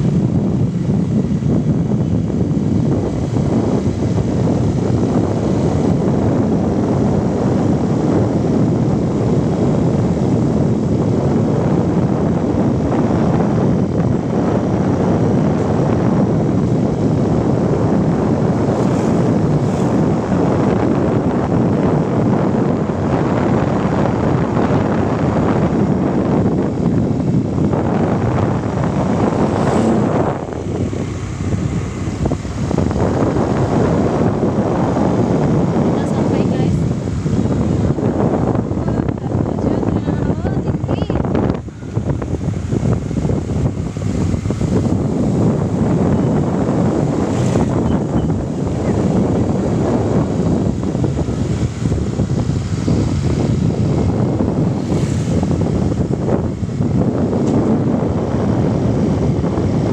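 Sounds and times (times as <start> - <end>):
vehicle running: 0.0 - 59.9
wind buffeting microphone: 0.0 - 59.9.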